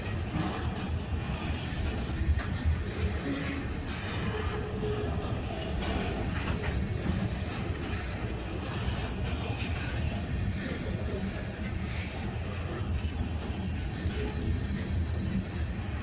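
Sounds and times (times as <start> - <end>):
train wheels clacking: 0.0 - 16.0
train wheels rumbling on rails: 0.0 - 16.0.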